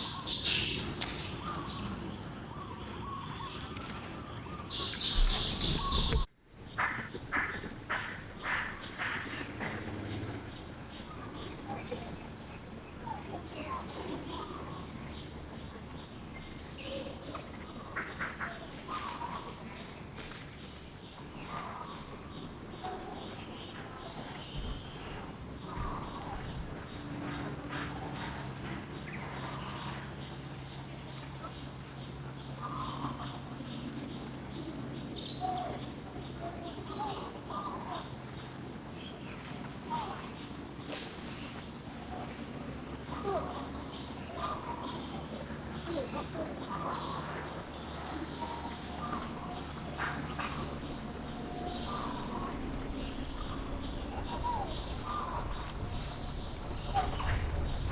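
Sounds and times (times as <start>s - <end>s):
animal calls and chirps: 0.0s - 20.0s, 21.1s - 57.9s
high insect drone: 0.0s - 57.9s.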